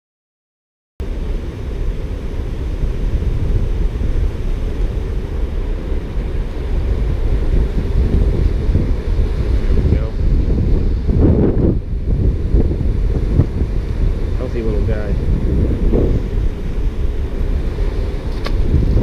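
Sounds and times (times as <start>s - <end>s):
wind buffeting microphone: 1.0s - 19.0s.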